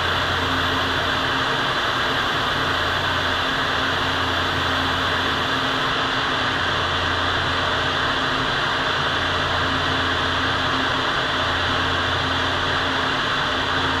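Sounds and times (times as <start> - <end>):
ventilation fans running: 0.0 - 14.0.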